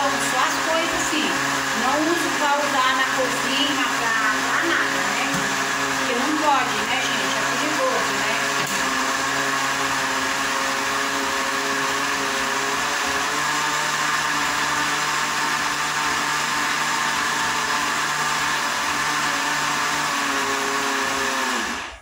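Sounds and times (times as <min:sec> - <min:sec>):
blender running: 0:00.0 - 0:22.0.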